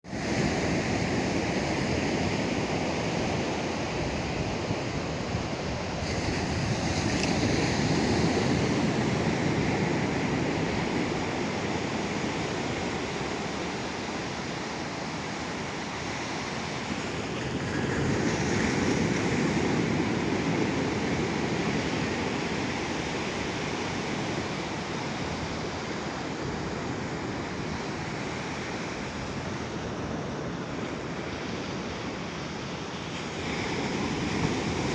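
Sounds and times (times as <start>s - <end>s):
waves breaking on beach: 0.1s - 34.9s.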